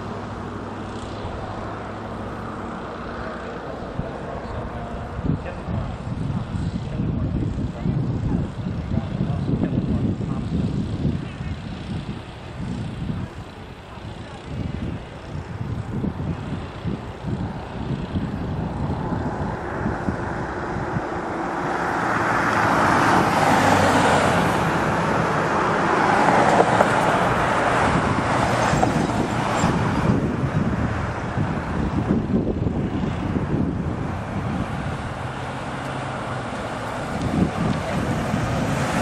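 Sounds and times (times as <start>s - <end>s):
low uneven engine rumble: 0.0s - 23.0s, 24.4s - 39.0s
vehicle passing rush: 0.0s - 39.0s.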